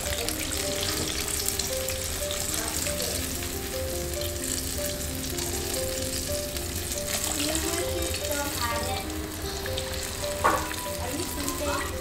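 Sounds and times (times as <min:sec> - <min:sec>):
background music: 0:00.0 - 0:12.0
fish deep-frying in oil: 0:00.0 - 0:12.0.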